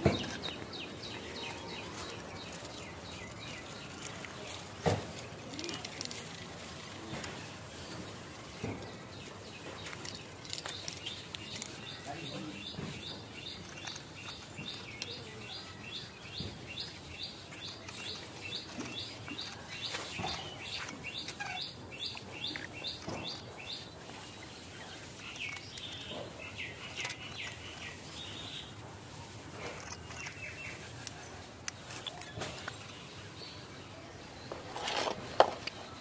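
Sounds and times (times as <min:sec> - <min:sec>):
bird chirping: 0:00.0 - 0:36.0.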